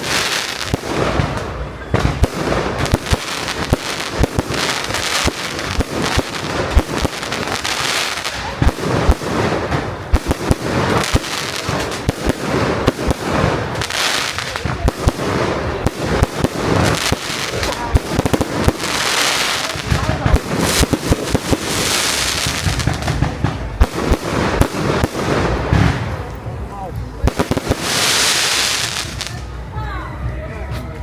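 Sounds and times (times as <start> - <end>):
fireworks banging and crackling: 0.0 - 29.7.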